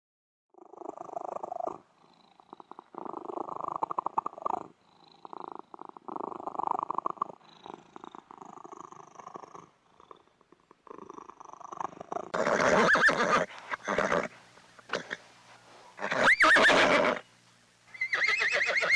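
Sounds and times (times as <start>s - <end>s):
cat purring: 0.6s - 17.3s.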